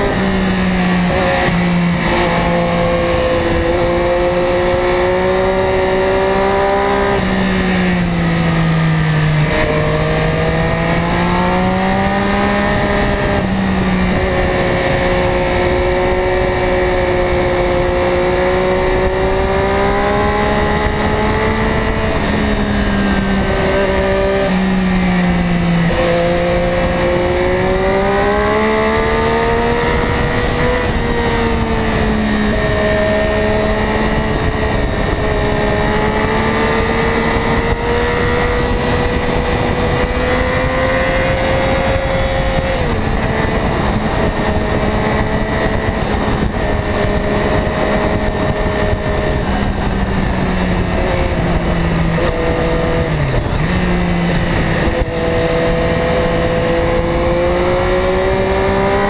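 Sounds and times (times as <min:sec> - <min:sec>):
heavy wind rush: 0:00.0 - 0:59.0
motorcycle engine revving: 0:00.0 - 0:59.0.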